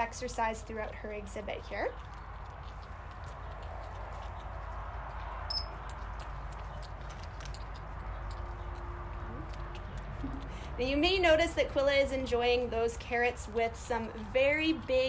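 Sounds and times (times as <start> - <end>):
porcupine chewing carrots: 0.0 - 15.0.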